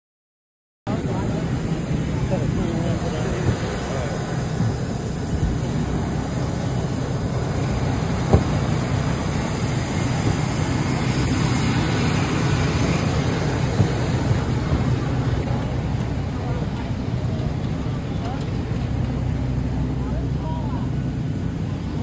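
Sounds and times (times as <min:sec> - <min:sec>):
jet aircraft drone and hiss: 0:00.9 - 0:22.0.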